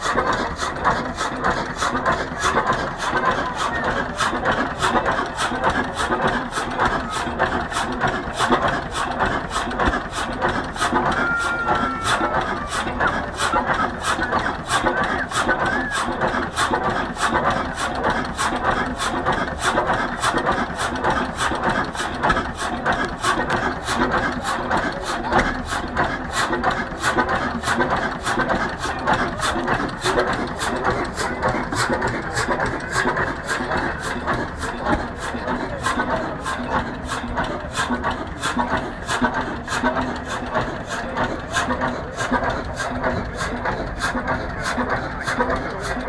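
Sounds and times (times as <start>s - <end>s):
engine knocking slowly: 0.0s - 46.0s.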